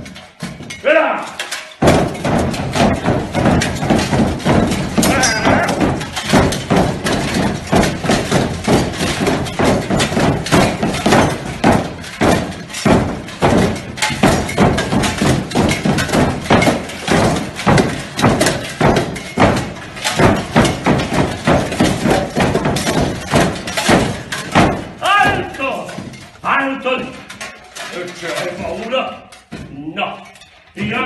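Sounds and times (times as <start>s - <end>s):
thumps on stage boards: 0.0s - 29.8s
metal swords and armour clashing: 0.0s - 31.0s.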